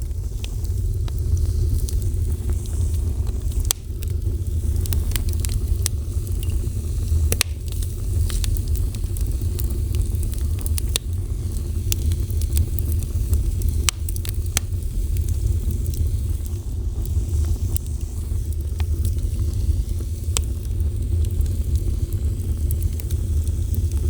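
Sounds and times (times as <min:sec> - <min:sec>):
fire burning with crackles: 0:00.0 - 0:24.0.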